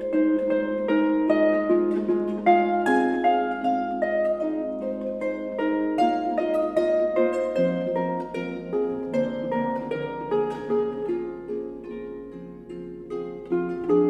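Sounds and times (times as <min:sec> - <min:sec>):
harp plucked notes: 0:00.0 - 0:14.0.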